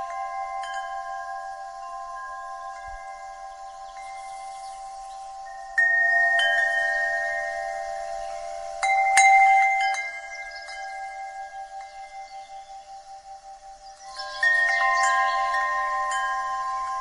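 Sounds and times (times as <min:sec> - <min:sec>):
wind chimes ringing: 0:00.0 - 0:17.0.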